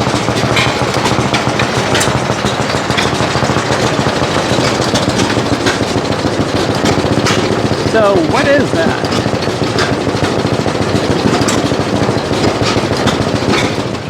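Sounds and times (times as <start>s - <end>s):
engine idling with knocking beat: 0.0s - 14.0s.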